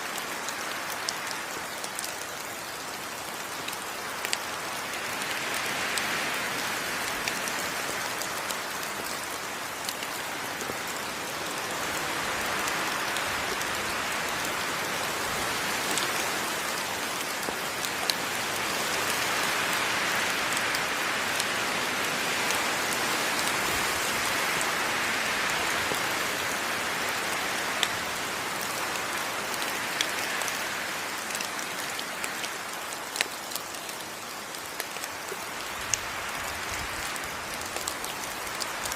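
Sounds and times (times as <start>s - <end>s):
close raindrops striking: 0.0s - 38.9s
heavy rain on foliage: 0.0s - 38.9s.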